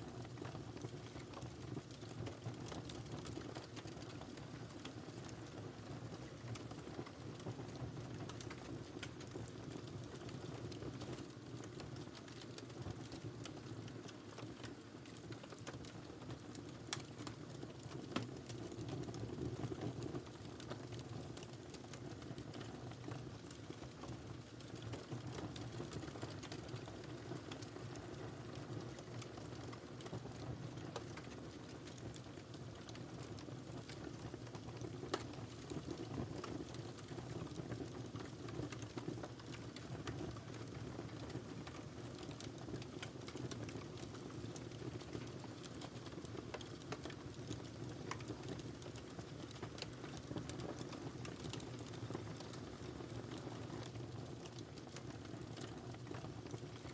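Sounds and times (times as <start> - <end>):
fire crackling and popping: 0.0 - 56.9
wood fire burning: 0.0 - 56.9.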